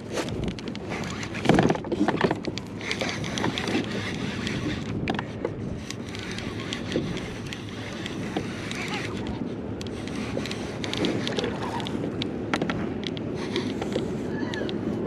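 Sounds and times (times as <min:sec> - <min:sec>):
scattered clicks: 0:00.0 - 0:14.8
water against hull: 0:00.0 - 0:15.0
wind on microphone: 0:00.0 - 0:15.0.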